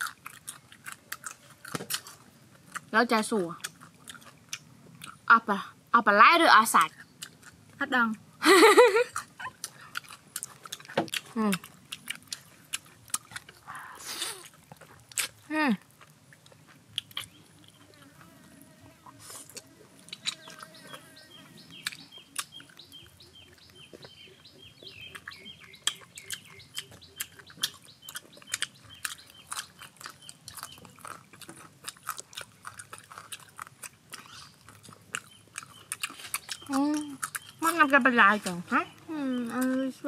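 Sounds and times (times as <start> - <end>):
chewing and lip-smacking: 0.0 - 5.3, 6.8 - 7.8, 9.0 - 18.4, 19.0 - 38.0.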